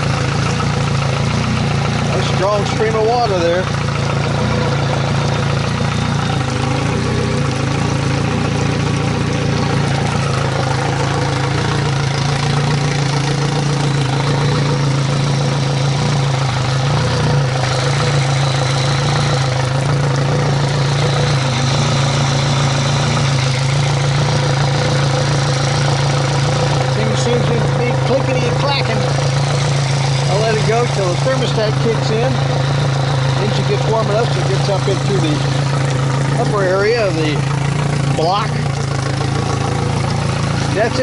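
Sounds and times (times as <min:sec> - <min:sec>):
outboard motor idling: 0:00.0 - 0:41.0
water from hose flushing: 0:00.0 - 0:41.0.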